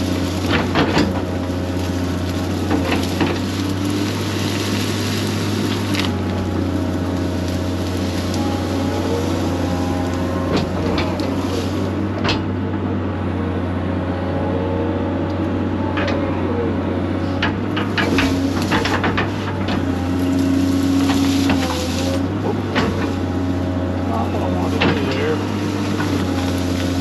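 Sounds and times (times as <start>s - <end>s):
excavator running: 0.0s - 27.0s
hydraulics whining: 0.0s - 27.0s.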